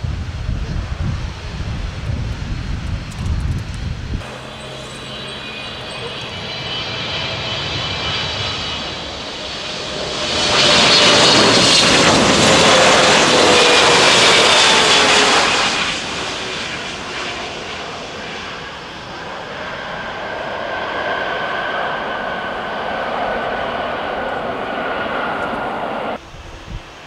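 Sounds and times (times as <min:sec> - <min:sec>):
jet engines rushing: 0:00.0 - 0:27.0
jet whine falling in pitch: 0:04.0 - 0:27.0.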